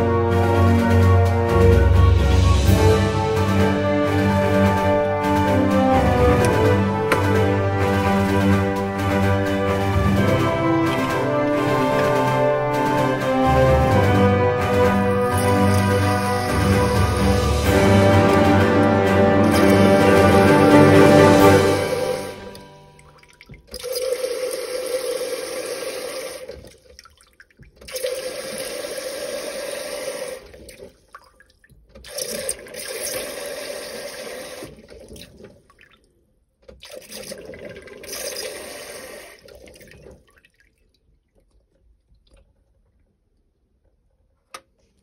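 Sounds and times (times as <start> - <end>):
water gushing into jug: 3.4 - 36.0, 36.8 - 42.6.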